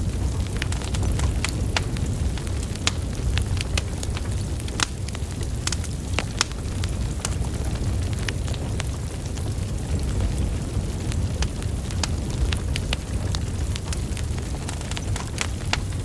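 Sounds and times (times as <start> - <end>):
logs crackling and popping: 0.0 - 16.0
low rumble of flame: 0.0 - 16.0.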